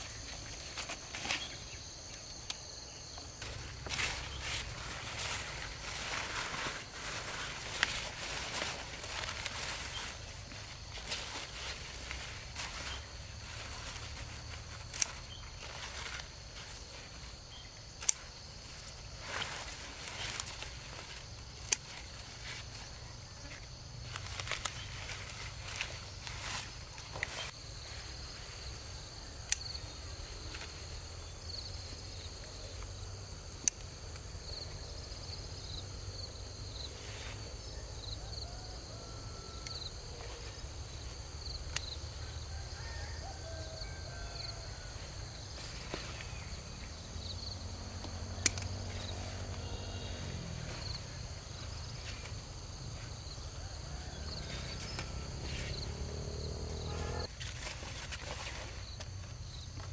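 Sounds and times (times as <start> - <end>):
insects chirping drone: 0.0 - 59.9.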